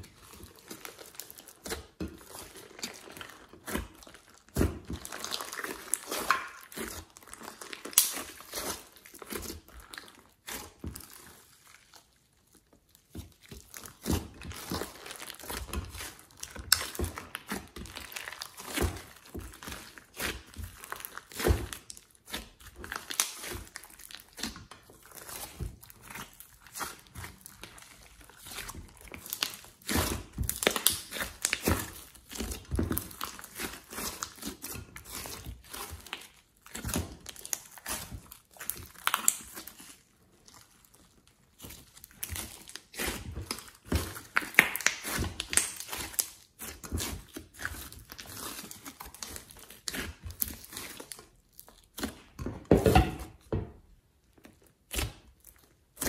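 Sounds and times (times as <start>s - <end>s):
slime squishing: 0.0s - 56.0s.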